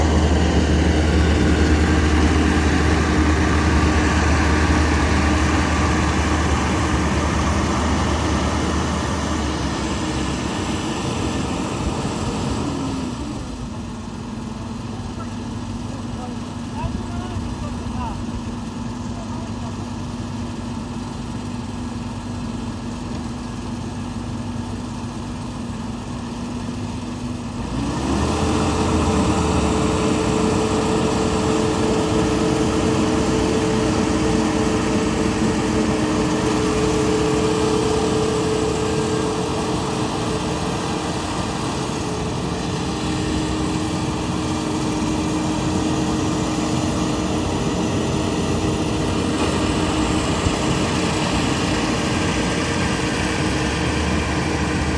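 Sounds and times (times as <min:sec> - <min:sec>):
harvesting machine engine running: 0:00.0 - 0:54.9.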